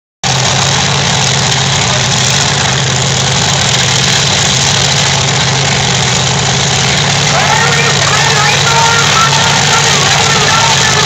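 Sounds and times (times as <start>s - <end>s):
drag racing car engines idling: 0.2s - 11.0s.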